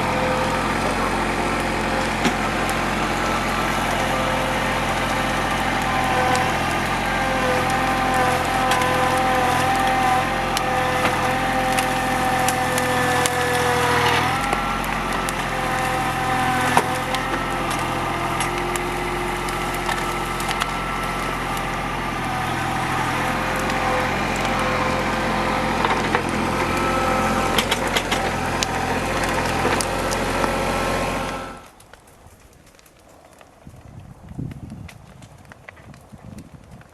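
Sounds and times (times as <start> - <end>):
tractor diesel engine running: 0.0 - 32.8
timber cracking and snapping: 0.0 - 36.9.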